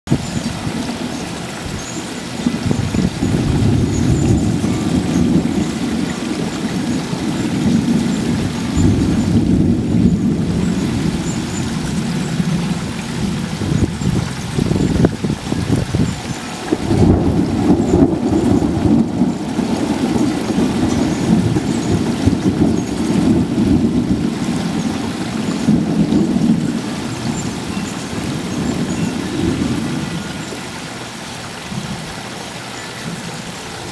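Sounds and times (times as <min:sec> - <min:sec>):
rolling thunder rumble: 0:00.1 - 0:31.1.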